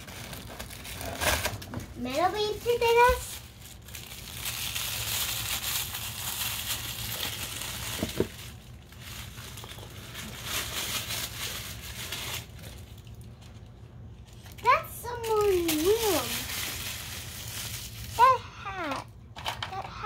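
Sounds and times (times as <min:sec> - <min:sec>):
paper and plastic wrappers crinkling: 0:00.0 - 0:19.9.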